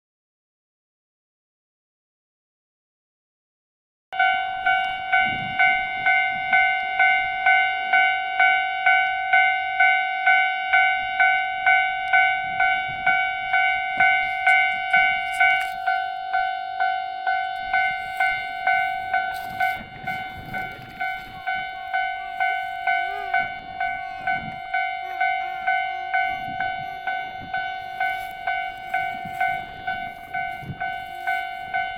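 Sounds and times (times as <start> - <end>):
level crossing warning bell ringing: 4.2 - 31.9.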